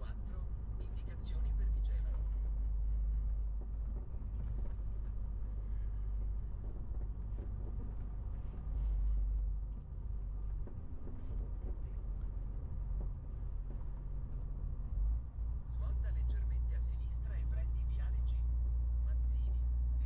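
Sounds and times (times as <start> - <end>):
road noise: 0.0 - 20.0
truck diesel engine rumbling: 0.0 - 20.0.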